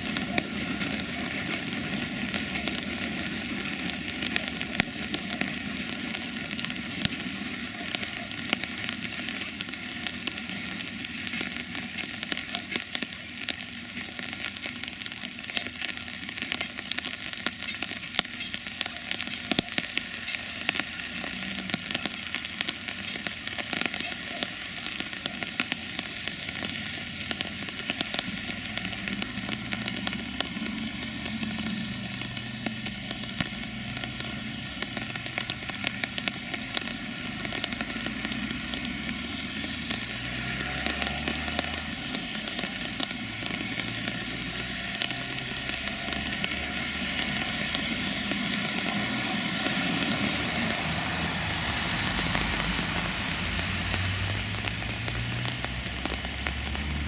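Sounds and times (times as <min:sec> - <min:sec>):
rain falling: 0:00.0 - 0:57.0
road vehicle engines: 0:00.0 - 0:57.0.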